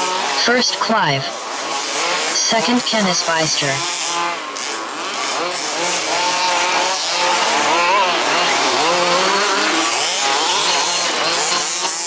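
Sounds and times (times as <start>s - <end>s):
small two-stroke engines racing: 0.0s - 12.0s.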